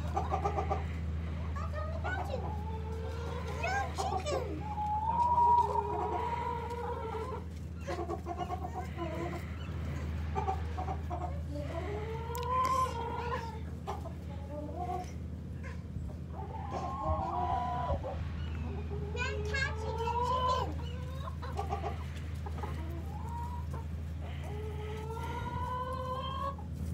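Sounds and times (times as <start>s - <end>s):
hens clucking: 0.0s - 26.9s.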